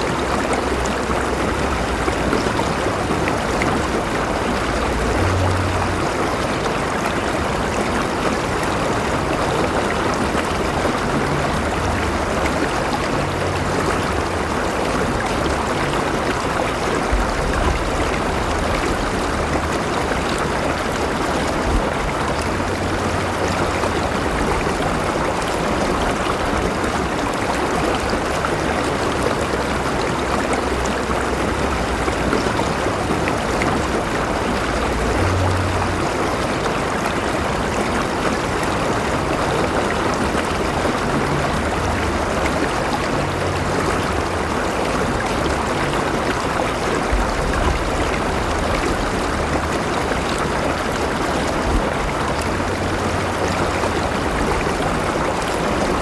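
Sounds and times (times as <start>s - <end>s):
river water babbling over rocks: 0.0s - 56.0s.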